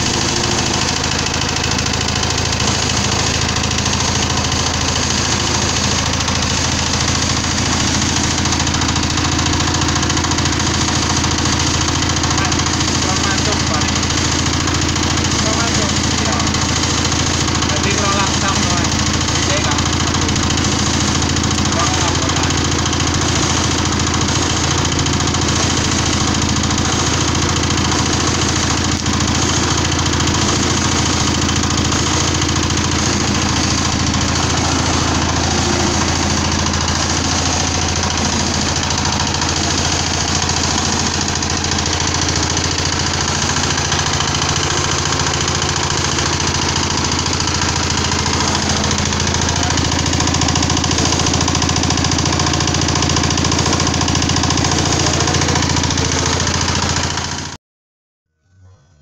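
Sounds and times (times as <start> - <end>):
screw press running with rattle: 0.0 - 57.6.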